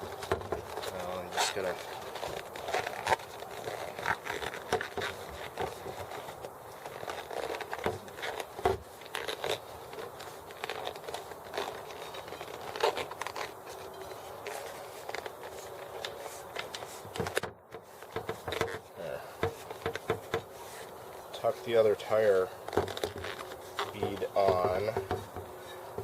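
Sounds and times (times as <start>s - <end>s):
rubber scuffing against rim: 0.0s - 26.0s.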